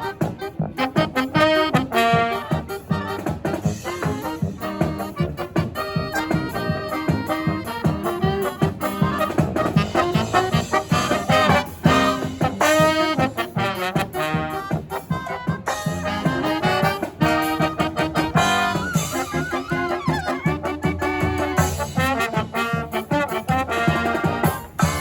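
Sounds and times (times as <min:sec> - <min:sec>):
brass marching band playing: 0:00.0 - 0:25.0.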